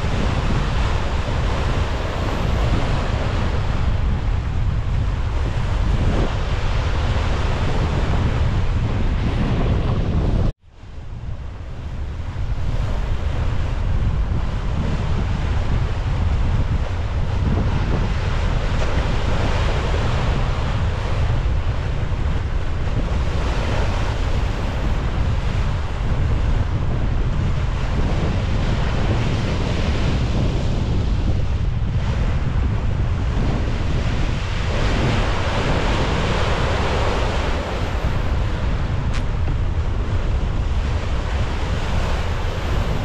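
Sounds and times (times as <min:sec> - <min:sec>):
rushing bow wash: 0:00.0 - 0:10.5, 0:11.4 - 0:43.0
wind buffeting microphone: 0:00.0 - 0:43.0.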